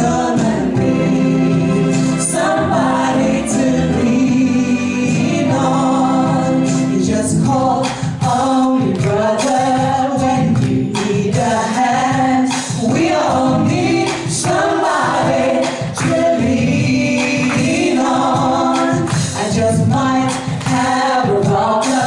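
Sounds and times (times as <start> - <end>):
backing music with steady beat: 0.0 - 22.0
women singing a duet: 0.0 - 22.0.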